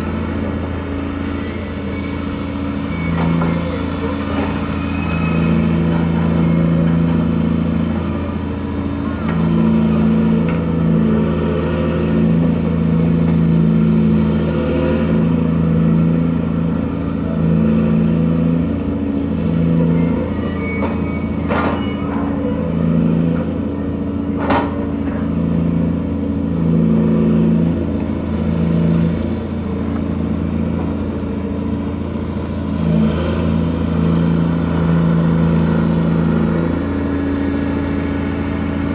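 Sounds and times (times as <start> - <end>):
crane machinery humming: 0.0 - 38.9.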